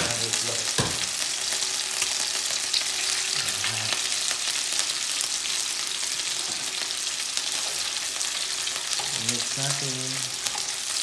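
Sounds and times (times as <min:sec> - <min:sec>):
egg sizzling in oil: 0:00.0 - 0:11.0.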